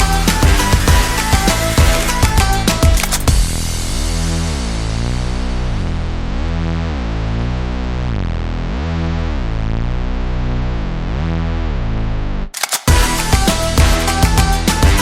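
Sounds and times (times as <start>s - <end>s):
electronic music with synth bass: 0.0s - 15.0s.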